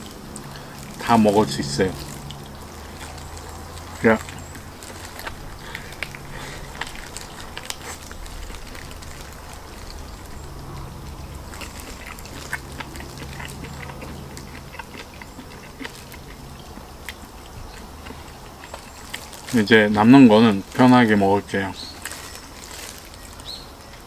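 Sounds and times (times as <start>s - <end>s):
man chewing meat off bone: 0.0s - 20.8s, 21.9s - 24.0s
steady low hum: 0.0s - 24.0s.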